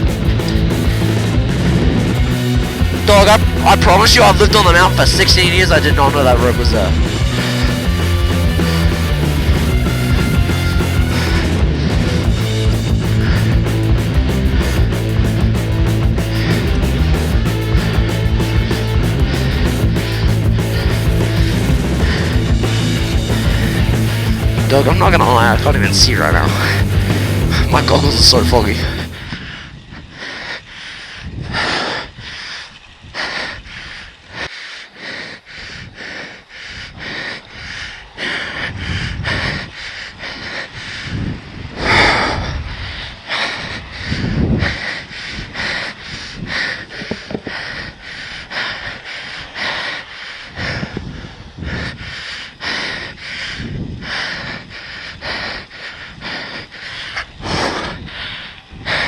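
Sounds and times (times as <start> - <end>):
person breathing hard: 0.0 - 59.0.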